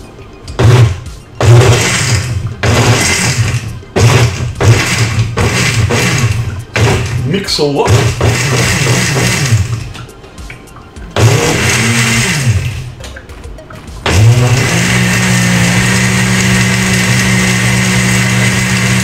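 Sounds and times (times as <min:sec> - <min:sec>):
countertop blender running: 0:00.6 - 0:07.3, 0:07.9 - 0:10.0, 0:11.2 - 0:13.0, 0:14.1 - 0:19.0.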